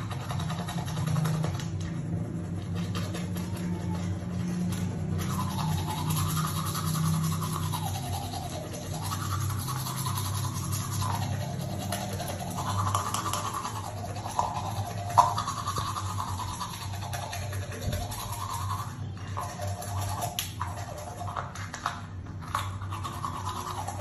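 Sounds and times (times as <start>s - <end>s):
toothbrush scrubbing teeth: 0.0s - 24.0s.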